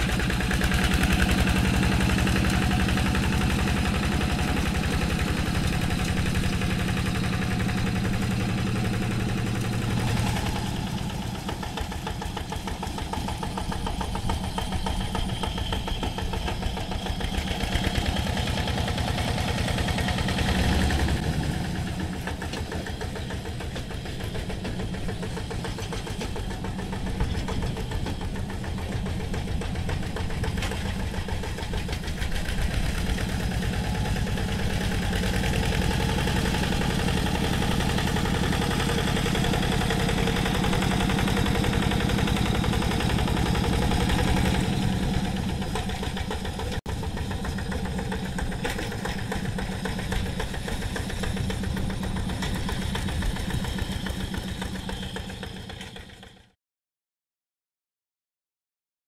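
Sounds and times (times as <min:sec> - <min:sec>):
diesel engine chugging: 0:00.0 - 0:56.6.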